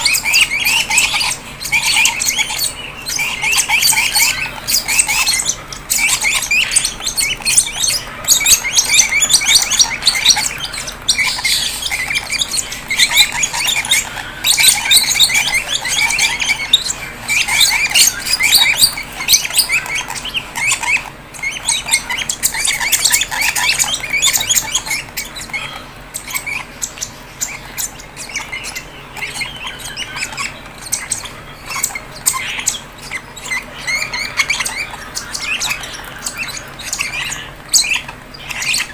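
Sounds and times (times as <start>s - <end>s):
lovebird chicks squawking: 0.0s - 38.9s.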